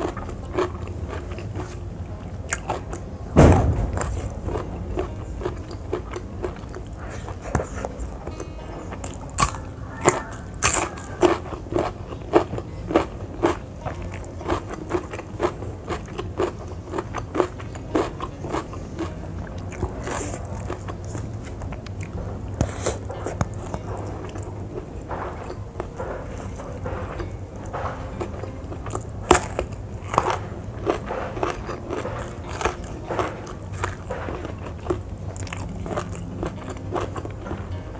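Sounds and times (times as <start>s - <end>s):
crunchy vegetable chewing: 0.0s - 37.9s.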